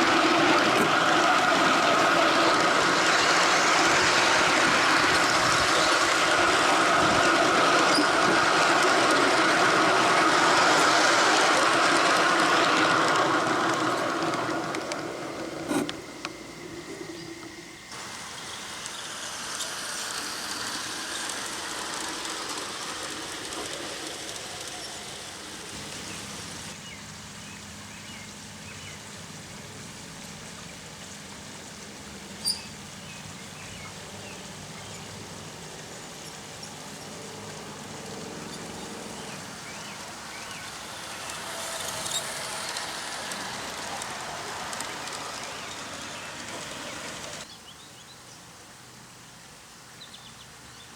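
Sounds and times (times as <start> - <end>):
model train wheels on rail: 0.0 - 27.2, 28.8 - 47.6.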